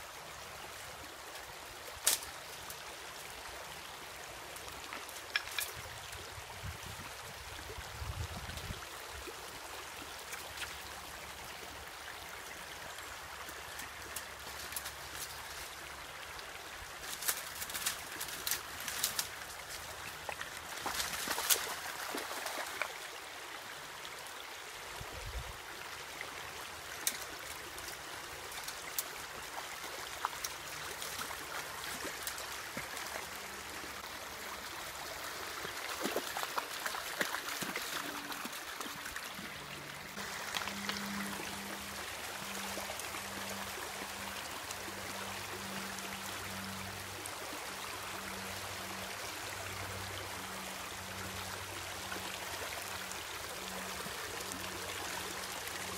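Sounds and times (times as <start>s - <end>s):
creek running over stones: 0.0s - 55.9s.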